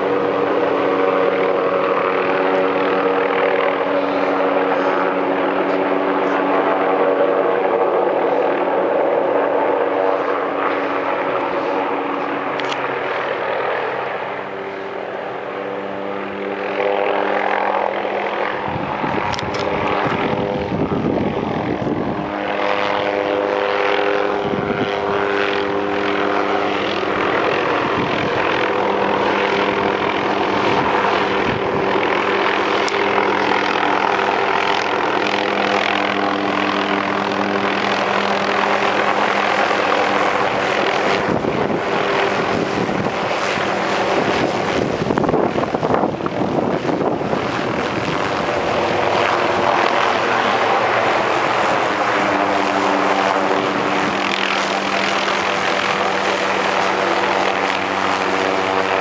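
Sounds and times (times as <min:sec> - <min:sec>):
helicopter flying low: 0:00.0 - 0:59.0.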